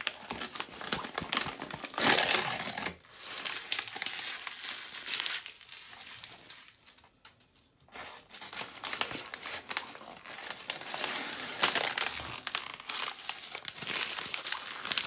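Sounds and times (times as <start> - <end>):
paper bag crinkling: 0.0 - 7.1, 7.9 - 15.0.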